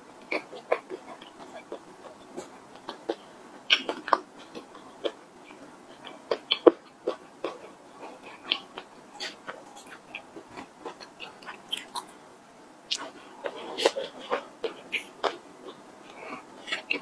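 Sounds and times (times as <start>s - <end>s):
close chewing with mouth clicks: 0.1s - 12.2s, 12.9s - 17.0s.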